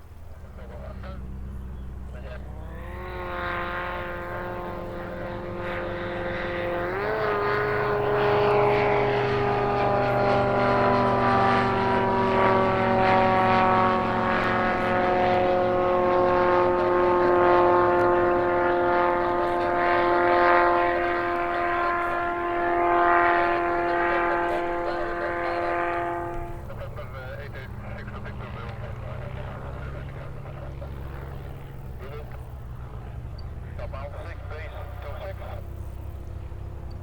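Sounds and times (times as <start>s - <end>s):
propeller aircraft engine: 0.0s - 37.0s.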